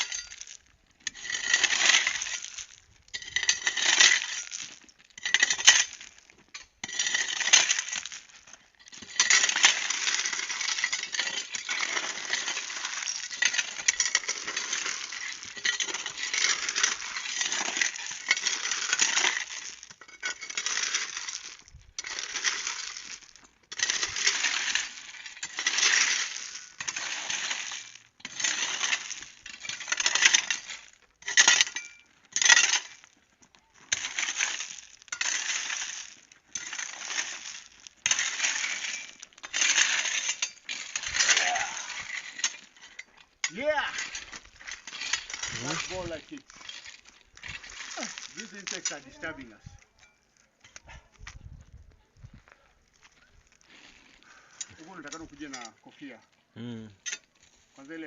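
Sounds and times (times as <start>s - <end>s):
hand tools scraping gravel: 0.0s - 58.0s.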